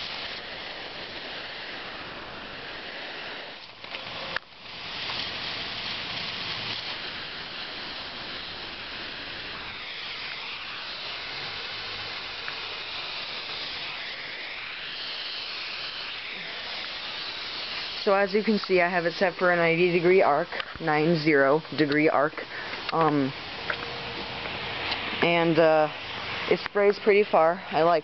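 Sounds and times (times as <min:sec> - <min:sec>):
sprinkler water jets hissing: 0:00.0 - 0:28.0.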